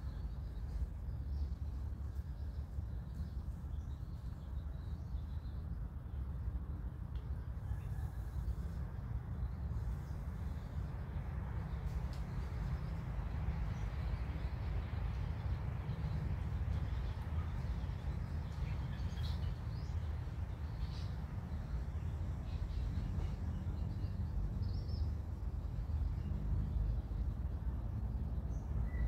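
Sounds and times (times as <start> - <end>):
low outdoor background noise: 0.0 - 29.0.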